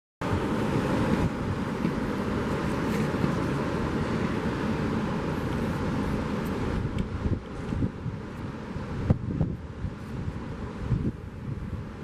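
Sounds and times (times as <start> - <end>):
sea surf washing on beach: 0.2 - 12.0
wind rumble on microphone: 0.2 - 12.0.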